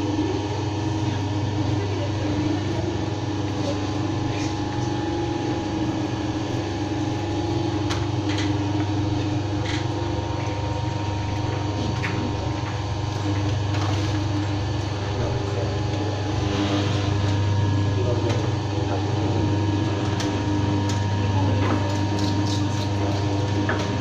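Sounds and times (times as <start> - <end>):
fish bone separator motor hum: 0.0 - 24.0.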